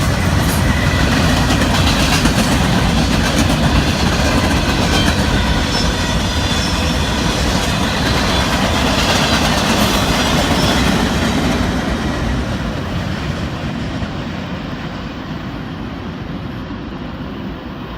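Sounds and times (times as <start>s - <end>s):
freight train rolling past: 0.0s - 17.9s.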